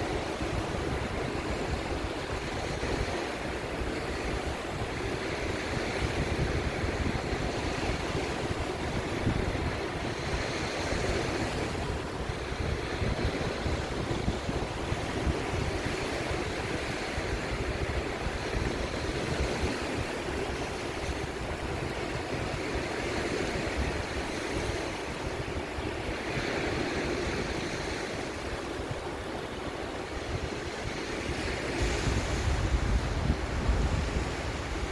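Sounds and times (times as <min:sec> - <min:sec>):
sea waves washing: 0:00.0 - 0:34.9
wind buffeting microphone: 0:00.0 - 0:34.9.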